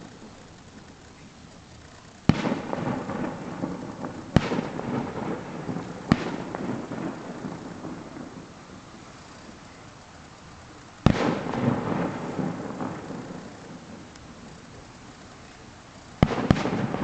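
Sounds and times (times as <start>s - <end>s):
distant fireworks bursting: 0.0s - 17.0s
rolling rumble of echoes: 0.0s - 17.0s.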